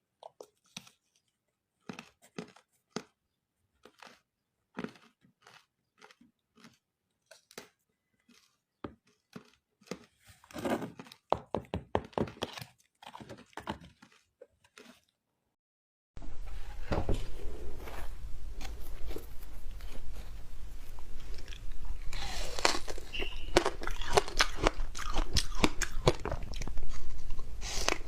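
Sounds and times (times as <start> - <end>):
ice being chewed: 0.1 - 11.3, 12.0 - 15.2, 18.6 - 28.0.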